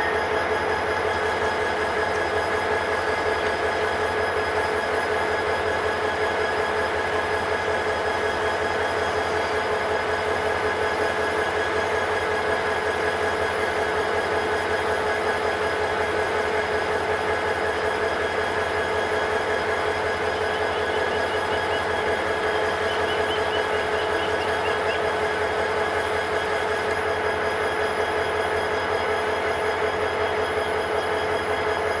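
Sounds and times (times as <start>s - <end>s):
train diesel engine drone: 0.0s - 32.0s.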